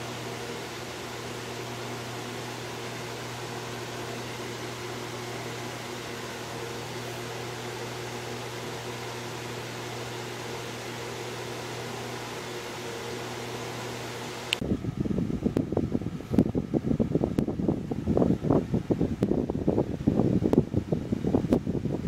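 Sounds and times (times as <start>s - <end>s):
box fan running: 0.0s - 22.0s.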